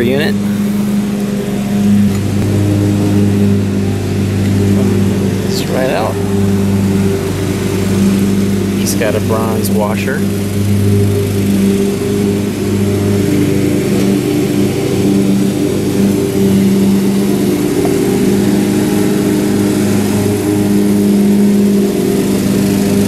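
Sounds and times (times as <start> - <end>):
engine humming steadily: 0.0 - 23.0.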